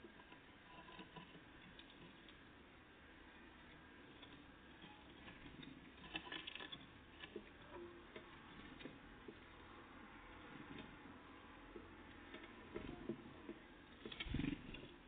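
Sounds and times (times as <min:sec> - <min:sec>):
birds pecking and hopping: 0:00.0 - 0:15.0
low background hum: 0:00.0 - 0:15.0.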